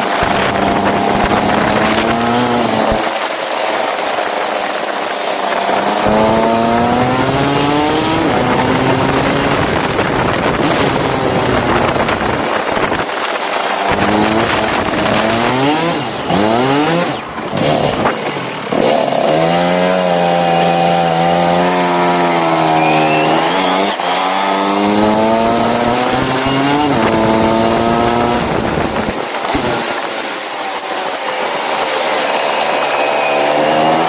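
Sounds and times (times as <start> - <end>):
go-kart engine revving: 0.0 - 34.0.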